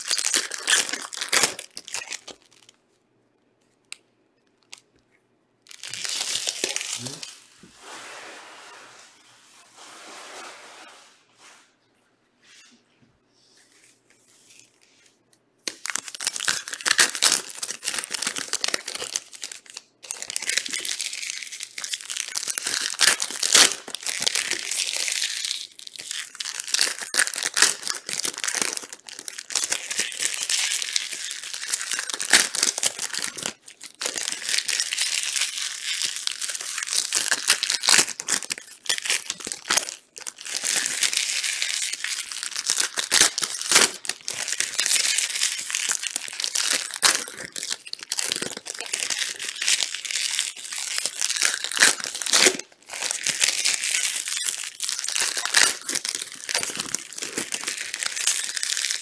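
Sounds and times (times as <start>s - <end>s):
card pack wrappers crinkling: 0.0s - 2.8s, 5.7s - 7.5s, 15.6s - 59.0s.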